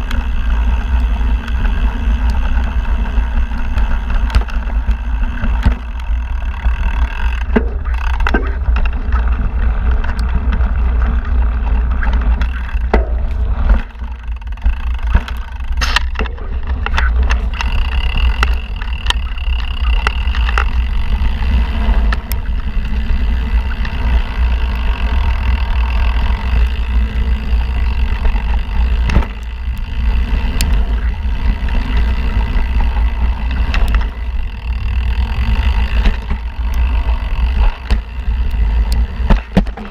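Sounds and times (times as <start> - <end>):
bike knocks and rattles: 0.0 - 39.9
tyres rolling on dirt: 0.0 - 39.9
wind rumble on microphone: 0.0 - 39.9.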